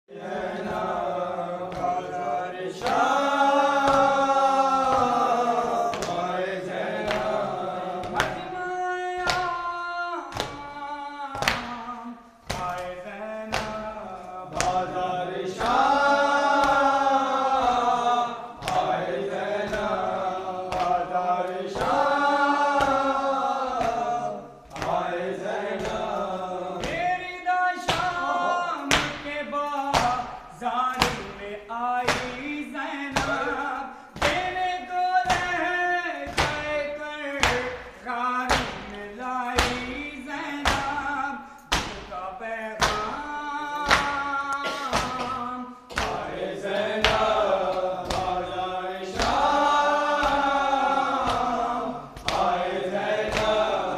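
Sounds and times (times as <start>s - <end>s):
men chanting in unison: 0.0s - 53.9s.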